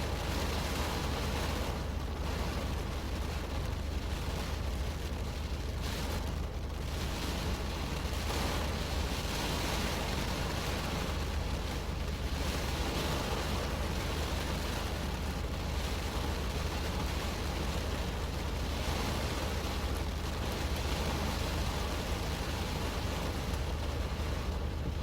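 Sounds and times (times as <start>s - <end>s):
rain falling on a car: 0.0s - 25.0s.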